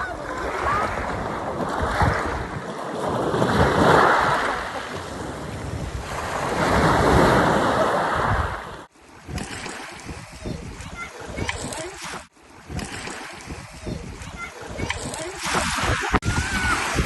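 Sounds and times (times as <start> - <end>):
sea surf washing onto beach: 0.0 - 17.0
wind on microphone: 0.0 - 17.0.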